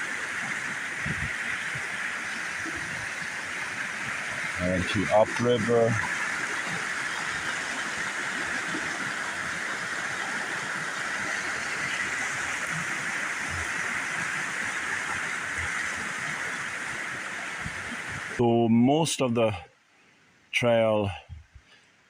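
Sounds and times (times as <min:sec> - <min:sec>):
river water rushing: 0:00.0 - 0:18.4.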